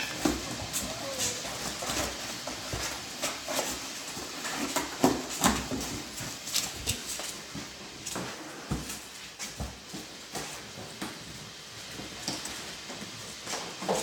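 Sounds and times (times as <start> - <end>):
puppy paws tapping and scratching: 0.0 - 14.0.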